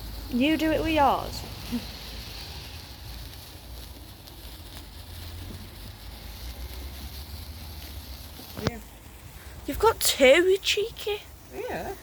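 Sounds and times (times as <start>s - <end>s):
sparklers fizzing and crackling: 0.0s - 12.0s.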